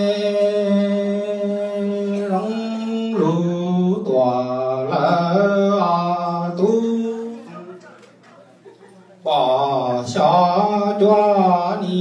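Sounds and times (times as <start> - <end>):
man chanting over loudspeakers: 0.0 - 7.8, 9.3 - 12.0.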